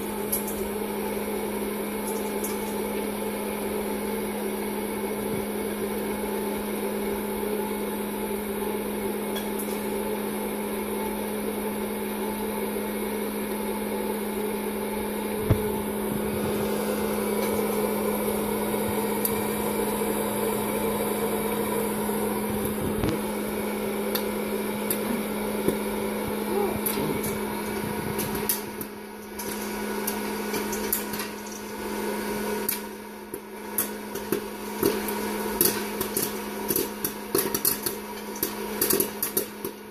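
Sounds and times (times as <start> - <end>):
popcorn popping: 0.0 - 7.7, 8.4 - 12.2, 13.0 - 39.9
popcorn popper fan humming: 0.0 - 39.9.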